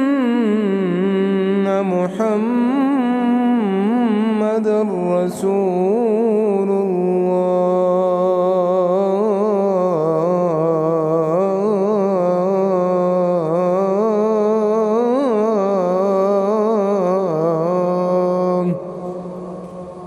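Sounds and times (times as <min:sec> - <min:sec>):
man chanting call to prayer: 0:00.0 - 0:20.0.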